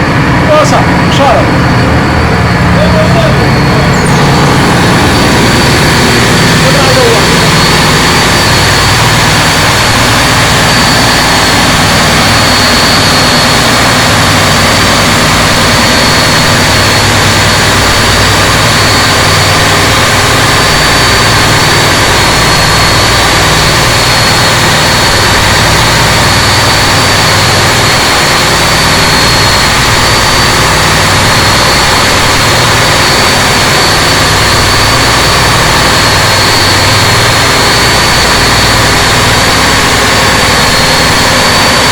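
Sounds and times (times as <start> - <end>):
motorboat engine whine: 0.0 - 41.9.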